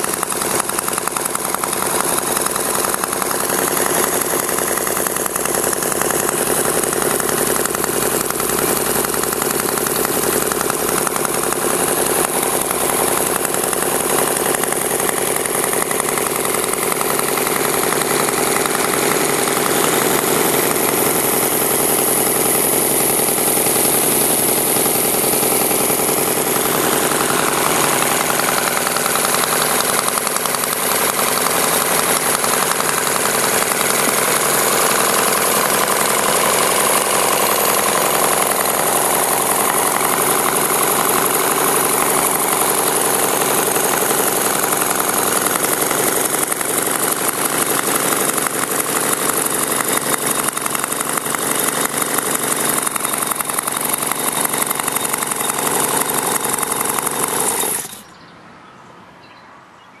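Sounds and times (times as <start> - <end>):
model engine running: 0.0 - 58.2.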